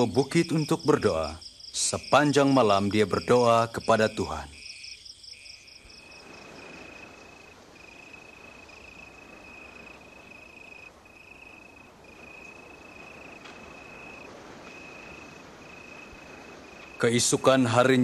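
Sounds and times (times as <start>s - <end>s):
crickets chirping: 0.0s - 18.0s
outdoor ambience hiss: 0.0s - 18.0s.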